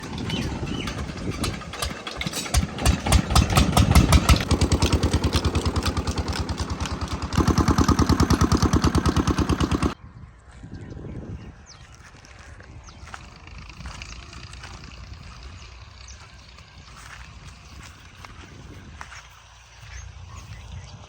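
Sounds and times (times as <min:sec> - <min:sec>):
diesel engine driving water pump: 0:00.0 - 0:10.0, 0:13.0 - 0:21.0.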